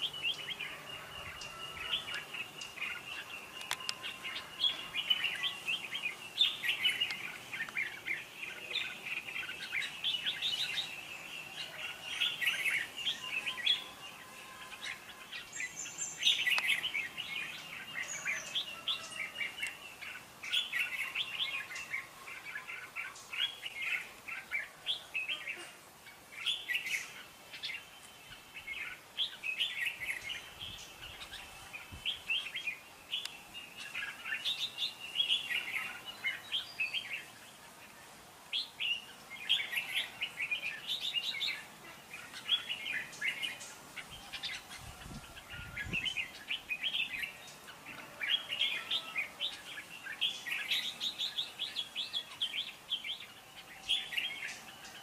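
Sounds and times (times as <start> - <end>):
bulbuls singing: 0.0 - 55.0.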